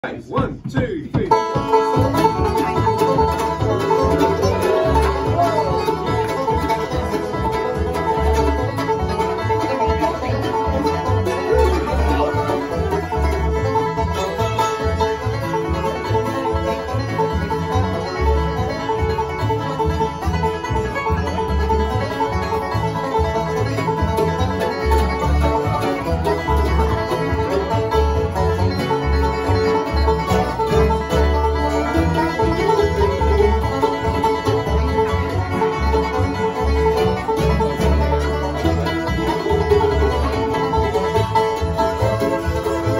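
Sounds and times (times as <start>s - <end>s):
upright bass: 0.0s - 42.9s
acoustic guitar: 1.1s - 42.9s
banjo: 1.2s - 42.9s
fiddle: 1.2s - 42.9s
mandolin: 1.3s - 42.9s.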